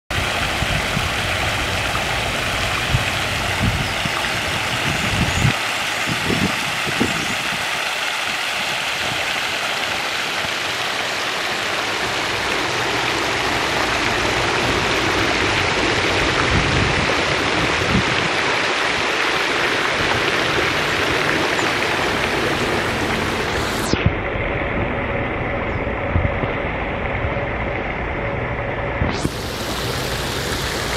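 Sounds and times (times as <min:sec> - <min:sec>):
fountain water splashing: 0:00.1 - 0:24.0, 0:29.1 - 0:30.9.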